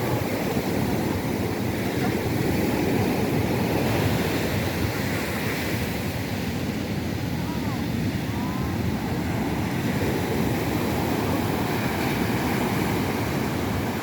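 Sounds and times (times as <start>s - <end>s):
surf breaking on a beach: 0.0s - 14.0s.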